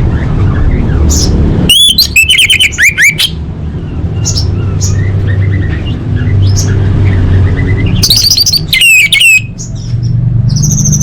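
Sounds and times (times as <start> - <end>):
thrush singing whistled notes: 0.2 - 3.4, 4.2 - 9.9.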